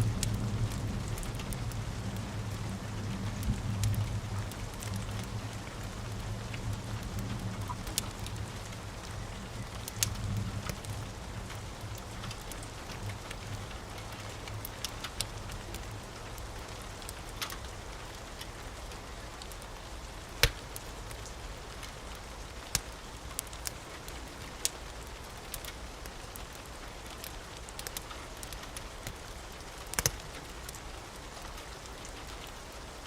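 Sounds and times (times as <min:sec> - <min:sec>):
wood fire crackling and popping: 0:00.0 - 0:30.8
steady rain: 0:00.0 - 0:33.0.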